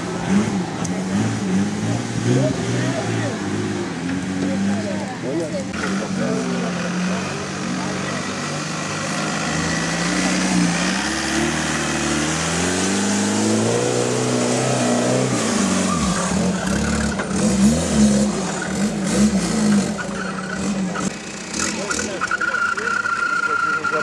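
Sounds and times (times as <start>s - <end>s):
off-road buggy engine revving: 0.0s - 24.0s.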